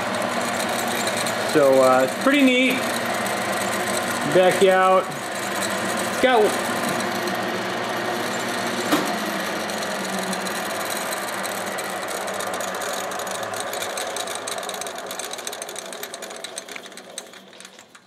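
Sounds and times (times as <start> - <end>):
lathe gears clattering: 0.0 - 7.4, 8.2 - 18.0.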